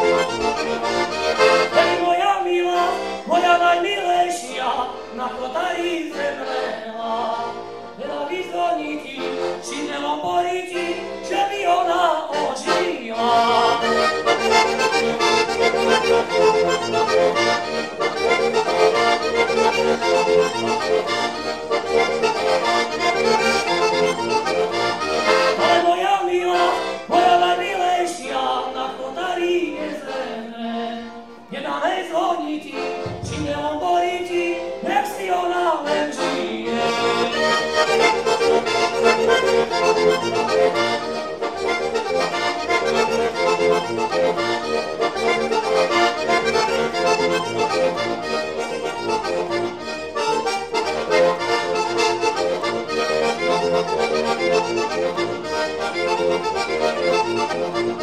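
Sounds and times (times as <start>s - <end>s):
button accordion folk tune: 0.0s - 58.0s.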